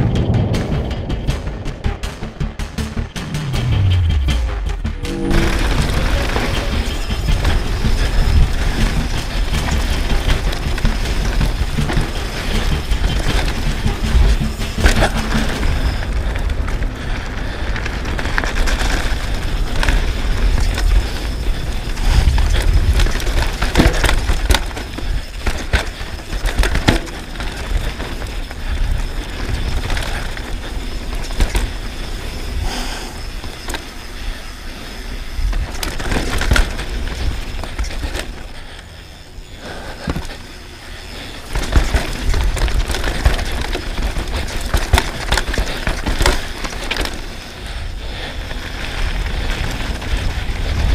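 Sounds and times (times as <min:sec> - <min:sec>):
bike tyre noise: 0:00.0 - 0:50.9
wind rumble on microphone: 0:03.3 - 0:38.7, 0:41.4 - 0:50.9
chain and frame rattling: 0:05.2 - 0:50.9.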